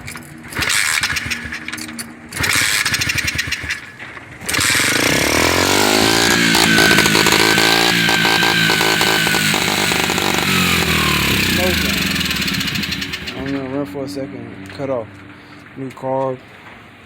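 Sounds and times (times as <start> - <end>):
small motorbike engine revving: 0.0 - 15.0.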